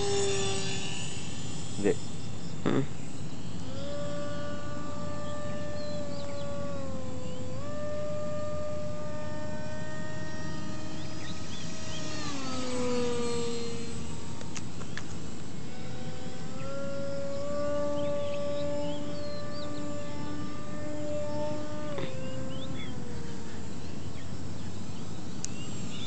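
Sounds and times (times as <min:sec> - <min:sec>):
rc plane motor whining: 0:00.0 - 0:26.0.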